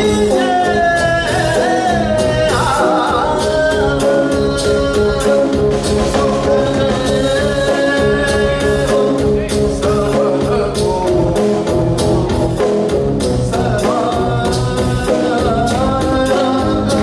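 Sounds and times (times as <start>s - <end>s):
drum strokes: 0.0s - 17.0s
person singing: 0.0s - 17.0s.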